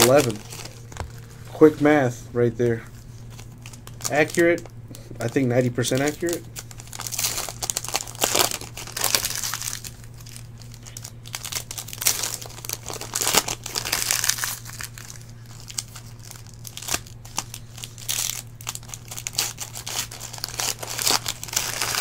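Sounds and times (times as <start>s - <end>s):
wrapper crinkling and tearing: 0.0s - 1.8s, 3.2s - 22.0s.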